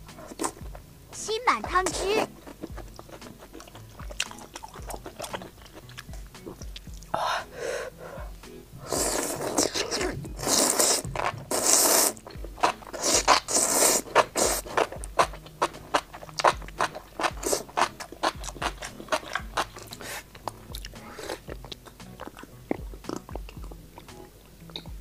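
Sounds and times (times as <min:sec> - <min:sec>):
wet chewing with crunches: 0:00.0 - 0:00.8, 0:01.7 - 0:07.2, 0:08.1 - 0:25.0
noodles slurped: 0:00.1 - 0:00.8, 0:01.7 - 0:07.2, 0:08.8 - 0:24.8.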